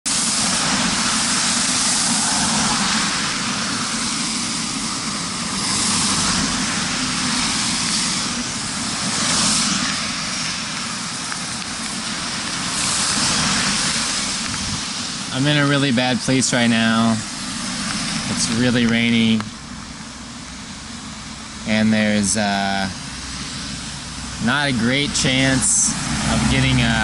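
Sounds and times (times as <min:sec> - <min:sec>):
steady rain: 0:00.1 - 0:27.0
tyres hissing on wet road: 0:00.1 - 0:27.0.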